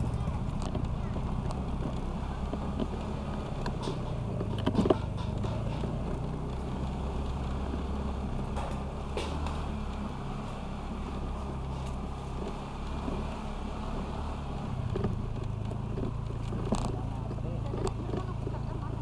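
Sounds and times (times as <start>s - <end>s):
scooter engine running: 0.0s - 19.0s
wind and road noise: 0.0s - 19.0s.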